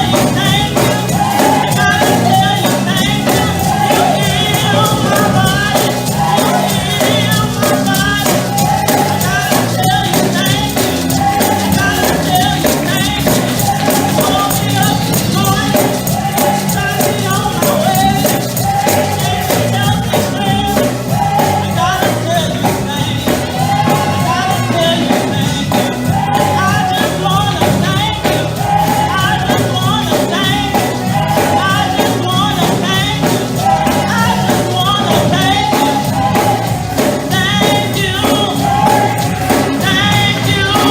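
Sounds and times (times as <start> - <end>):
band playing: 0.0 - 40.9
tambourine beat: 0.0 - 40.9
voices singing together: 0.0 - 40.9.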